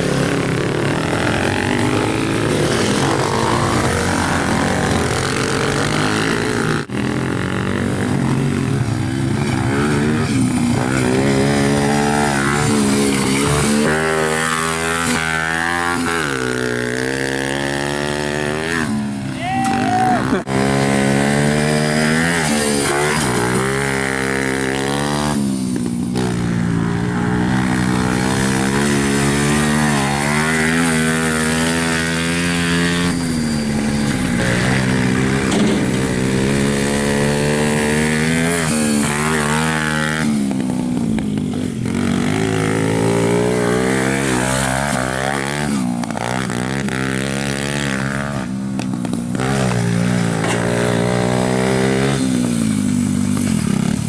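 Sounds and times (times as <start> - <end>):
small pit bike engine running: 0.0 - 54.0.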